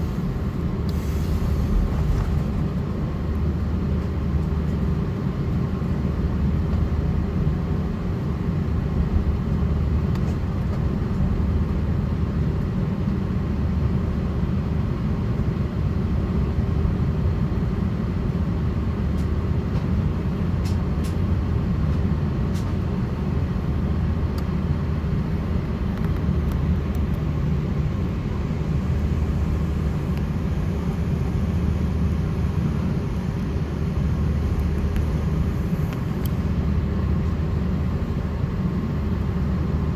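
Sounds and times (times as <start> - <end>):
cabin air: 0.0 - 39.9
jet engines low rumble: 0.0 - 39.9.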